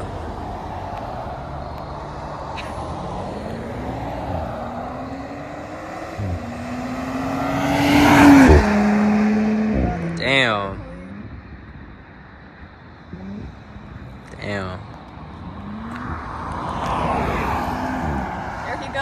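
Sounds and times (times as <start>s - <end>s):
car engine accelerating hard: 0.0s - 11.8s, 13.0s - 19.0s.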